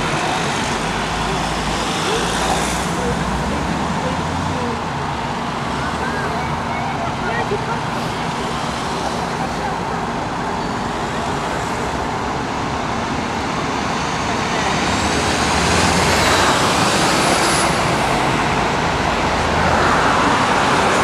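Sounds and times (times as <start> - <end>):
traffic rushing past: 0.0 - 21.0.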